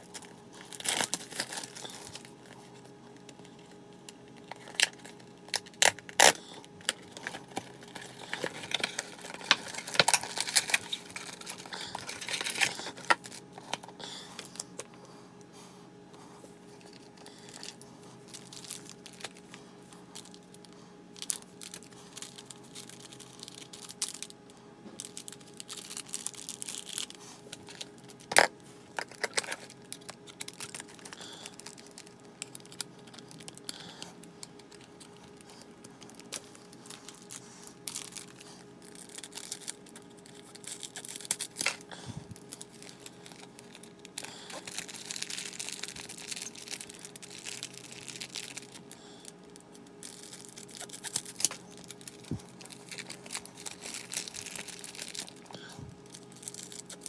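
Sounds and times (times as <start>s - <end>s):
foil pack tearing and crinkling: 0.0s - 2.6s, 4.3s - 14.7s, 16.8s - 19.5s, 21.2s - 24.4s, 25.0s - 57.0s
faint steady hum: 0.0s - 57.0s.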